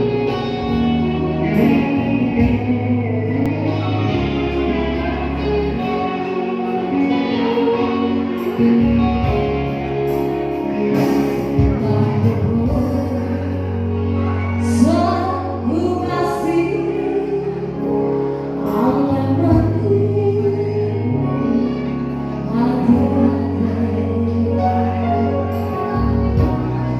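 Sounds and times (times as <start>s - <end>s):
person singing: 0.0s - 26.9s
sustained low accompaniment notes: 0.0s - 26.9s.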